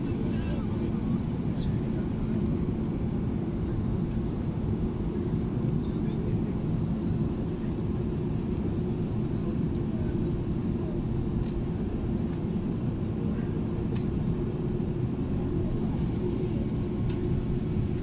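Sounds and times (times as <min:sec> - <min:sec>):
airplane cabin rumble and hum: 0:00.0 - 0:18.0.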